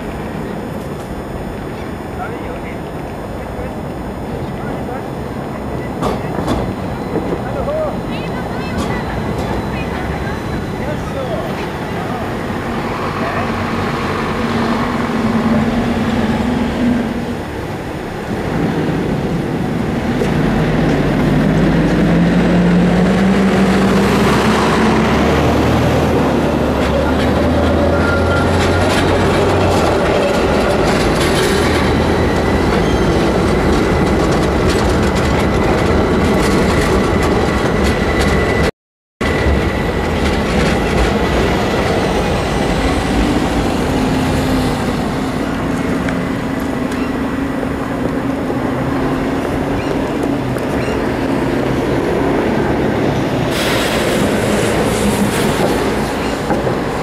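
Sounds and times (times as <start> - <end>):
steady traffic noise: 0.0 - 57.0
tram rolling on rails: 0.0 - 57.0
bus pulling away: 4.3 - 57.0.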